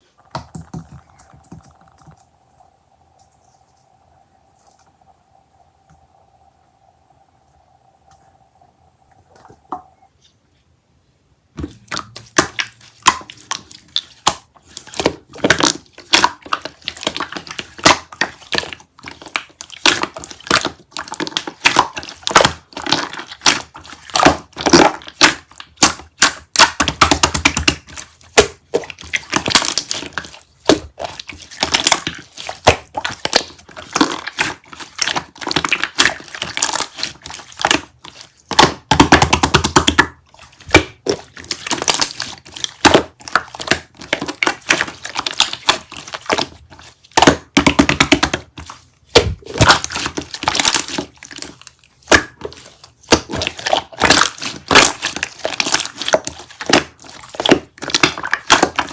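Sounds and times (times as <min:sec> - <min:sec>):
crinkling and crackling: 0:00.0 - 0:05.2, 0:11.6 - 0:58.9.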